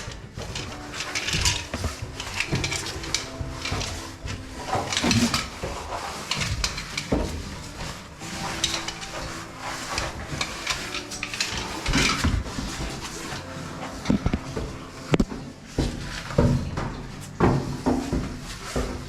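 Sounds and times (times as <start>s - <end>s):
metal caving gear clinking: 0.0s - 19.0s
rope scraping against rock: 0.0s - 19.0s.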